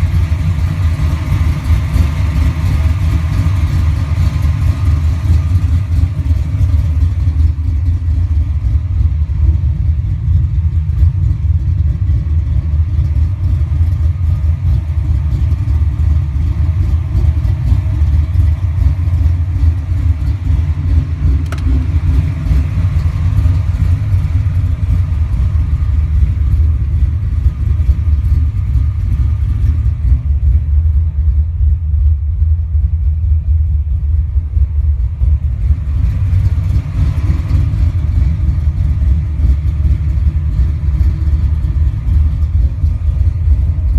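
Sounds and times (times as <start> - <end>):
car engine idling: 0.0 - 43.9
supercharger whine: 0.0 - 43.9.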